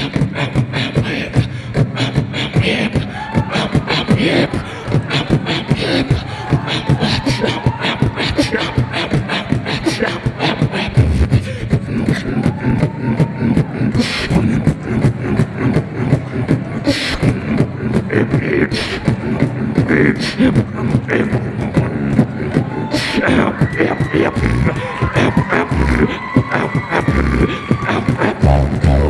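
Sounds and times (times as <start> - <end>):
person beatboxing: 0.0 - 29.0.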